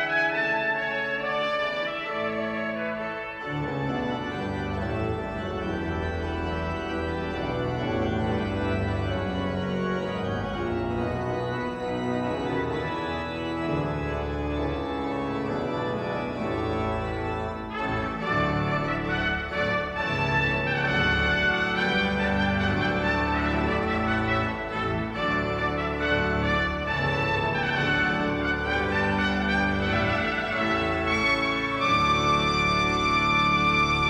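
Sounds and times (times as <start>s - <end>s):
pipe organ playing chords: 0.0s - 34.0s
trumpet: 0.0s - 34.0s.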